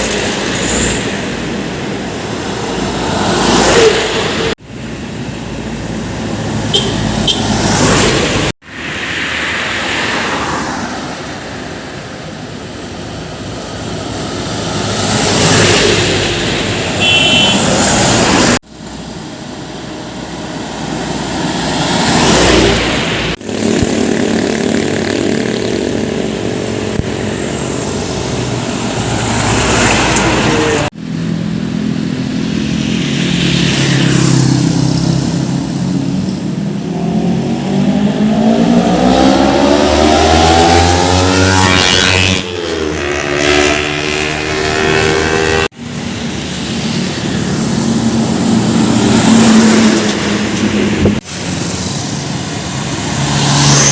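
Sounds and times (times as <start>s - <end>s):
heavy trucks passing: 0.0s - 53.9s.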